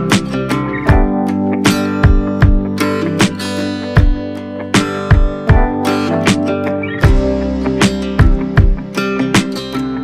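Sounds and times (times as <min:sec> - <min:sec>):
steady beat: 0:00.0 - 0:09.7
strummed acoustic guitar: 0:00.0 - 0:10.0.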